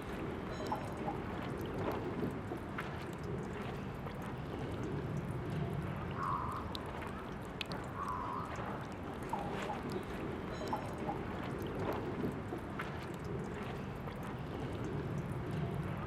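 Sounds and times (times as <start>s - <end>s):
water dripping: 0.0s - 16.0s.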